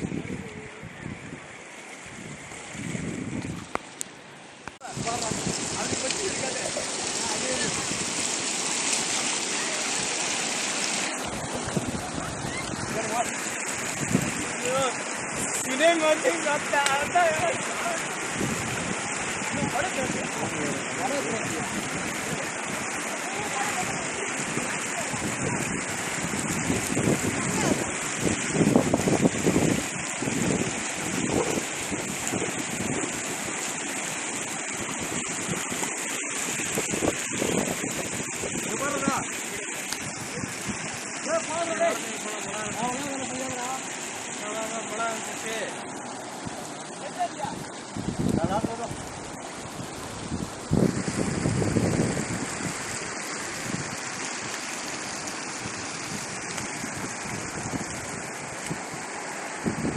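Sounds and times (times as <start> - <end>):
wind buffeting microphone: 0.0 - 3.8, 4.8 - 8.4, 11.1 - 15.6, 17.0 - 41.2, 46.2 - 59.9
heavy water rushing: 0.0 - 59.9.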